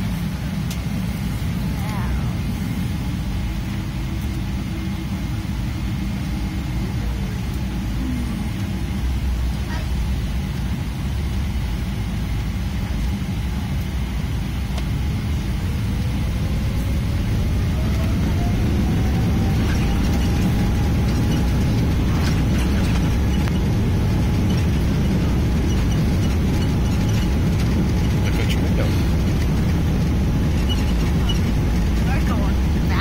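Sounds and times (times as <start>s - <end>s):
jet engine rumble: 0.0s - 33.0s
rising engine whine: 0.0s - 33.0s.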